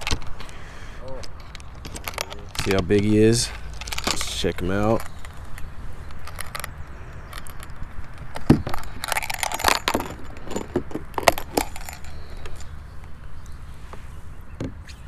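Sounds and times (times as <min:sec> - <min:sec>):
fishing gear clinking: 0:00.0 - 0:13.4.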